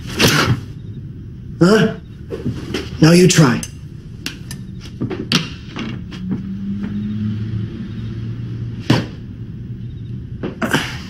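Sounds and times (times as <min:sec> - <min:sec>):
low steady drone: 0:00.0 - 0:11.0.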